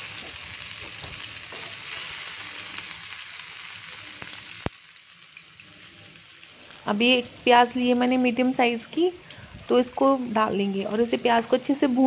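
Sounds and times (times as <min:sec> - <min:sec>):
oil sizzling with small pops: 0:00.0 - 0:12.0.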